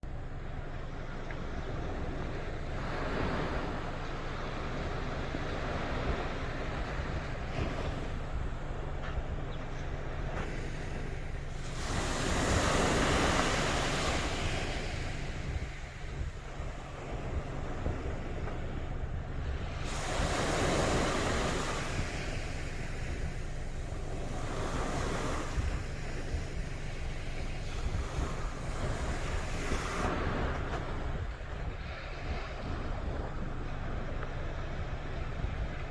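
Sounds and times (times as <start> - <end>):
wind rumble on microphone: 0.0 - 35.9
surf washing onto sandy beach: 0.6 - 35.9.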